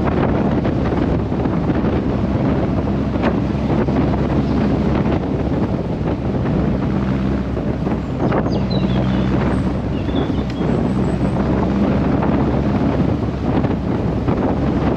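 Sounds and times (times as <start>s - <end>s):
car engine cruising: 0.0s - 14.9s
road noise: 0.0s - 14.9s
wind buffeting microphone: 0.0s - 14.9s.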